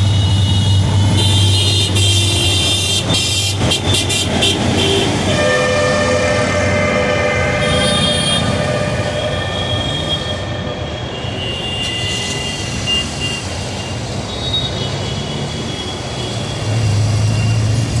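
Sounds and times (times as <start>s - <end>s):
high wheel squeals: 0.0s - 18.0s
train rumbling on rails: 0.0s - 18.0s.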